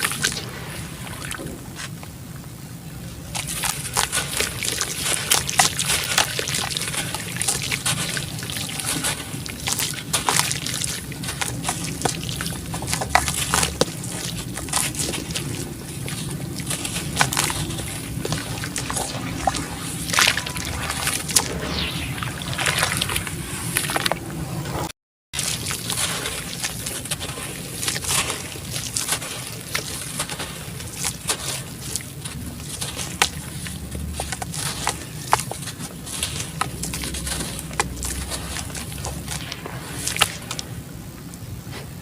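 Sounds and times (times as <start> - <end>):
water sloshing: 0.0 - 41.5
chunks crumbling with crackles: 3.2 - 21.6, 25.4 - 41.9.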